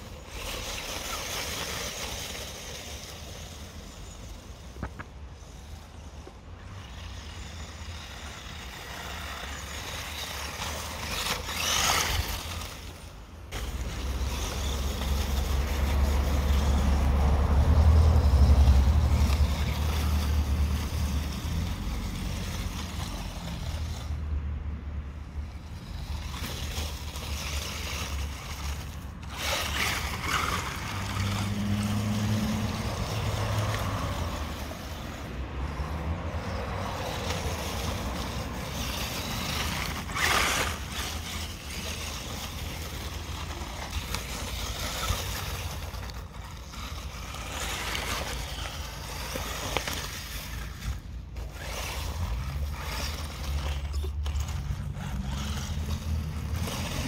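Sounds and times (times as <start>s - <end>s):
toy car electric motor whirring: 0.0s - 24.3s, 25.0s - 57.0s.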